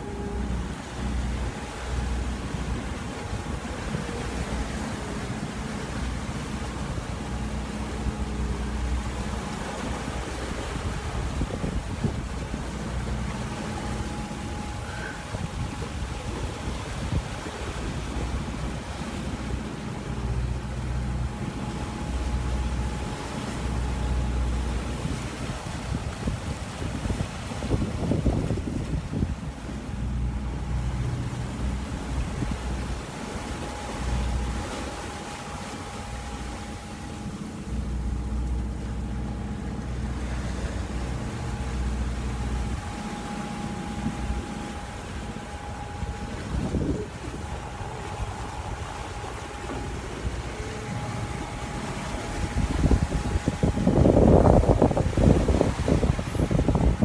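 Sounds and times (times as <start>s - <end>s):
waves splashing along a hull: 0.0s - 57.0s
wind buffeting microphone: 0.0s - 57.0s.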